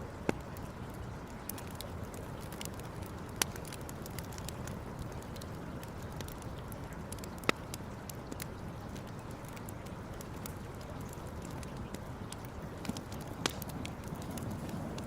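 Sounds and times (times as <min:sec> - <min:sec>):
campfire crackling and popping: 0:00.0 - 0:15.0
low background noise: 0:00.0 - 0:15.0.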